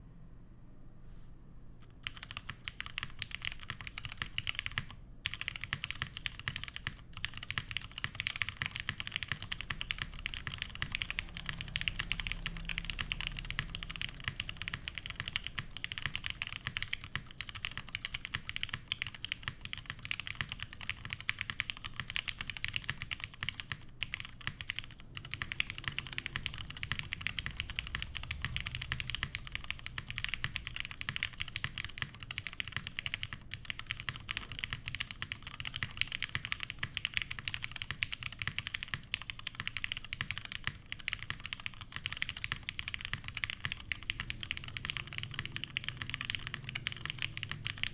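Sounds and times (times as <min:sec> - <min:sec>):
mechanical keyboard typing: 0:01.8 - 0:47.9.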